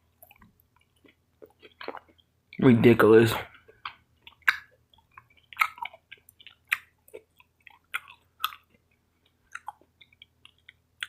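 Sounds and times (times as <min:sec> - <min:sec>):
person chewing crunchy salad: 0:00.0 - 0:02.6, 0:03.5 - 0:11.0.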